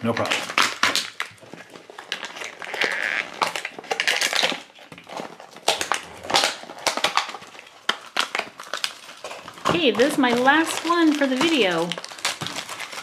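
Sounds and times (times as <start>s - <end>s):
plastic and foil crinkling: 0.0s - 13.0s.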